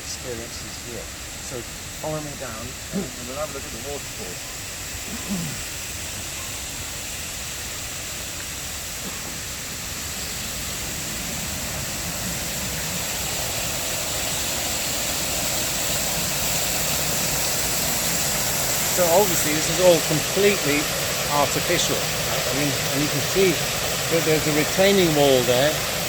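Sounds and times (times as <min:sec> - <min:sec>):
waterfall spilling into pool: 0:00.0 - 0:26.0.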